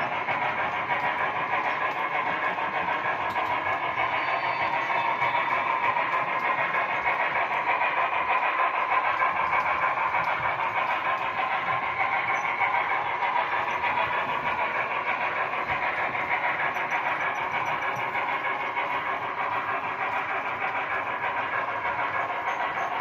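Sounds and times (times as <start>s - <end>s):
steam train running: 0.0s - 23.0s.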